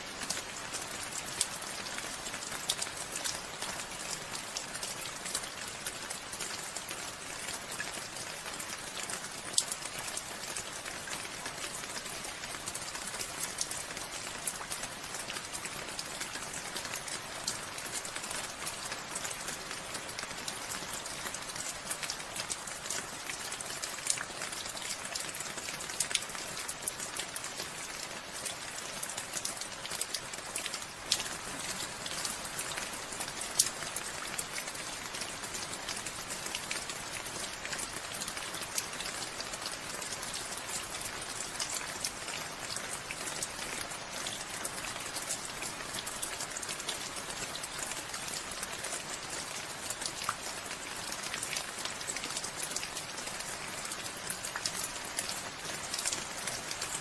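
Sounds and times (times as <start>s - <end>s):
raindrops ticking on a surface: 0.0s - 57.0s
steady rainfall: 0.0s - 57.0s.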